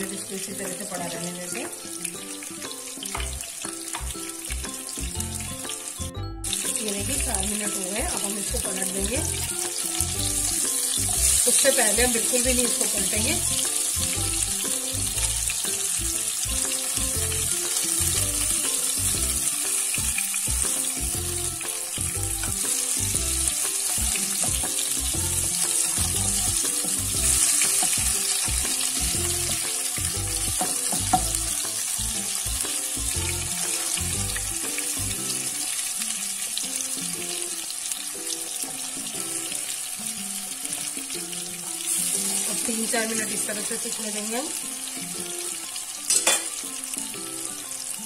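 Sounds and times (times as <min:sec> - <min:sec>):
fish sizzling in hot oil: 0:00.0 - 0:48.0.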